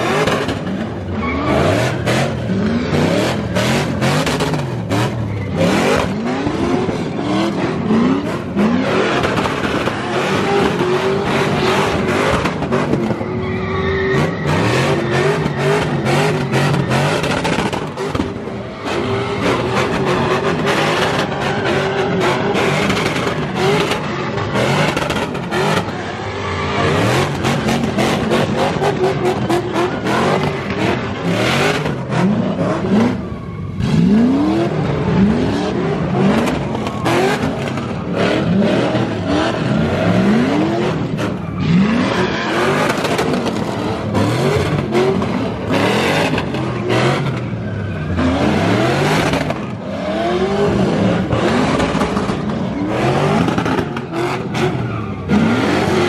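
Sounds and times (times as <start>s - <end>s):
car engine revving: 0.0s - 56.0s
crowd noise: 0.0s - 56.0s.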